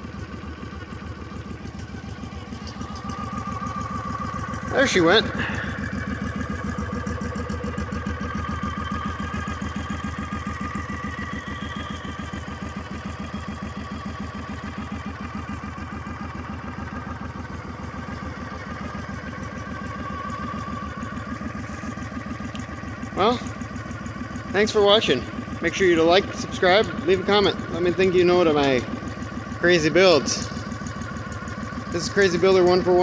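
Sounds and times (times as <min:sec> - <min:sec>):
minibike engine running: 0:00.0 - 0:33.0.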